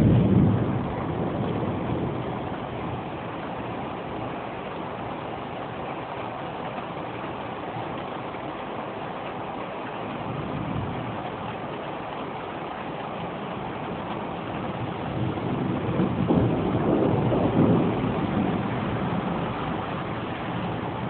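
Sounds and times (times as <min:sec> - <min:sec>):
steady rain falling: 0:00.0 - 0:21.0
thunder rumble: 0:00.0 - 0:21.0.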